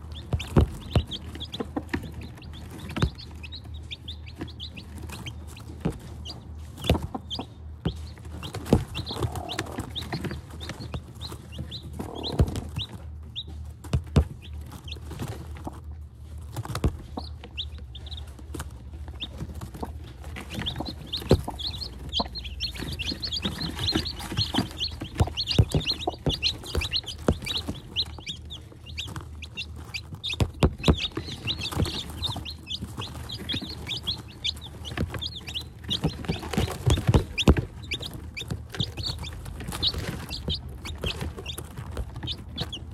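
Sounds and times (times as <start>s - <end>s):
hen clucking: 0.0s - 13.6s, 16.8s - 42.9s
chicks peeping: 0.0s - 42.9s.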